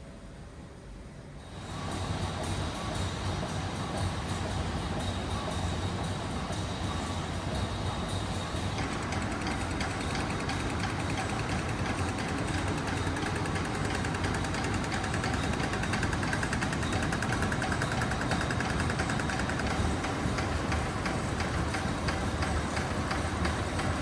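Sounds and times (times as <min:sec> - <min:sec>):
steam engine running: 0:01.5 - 0:24.0.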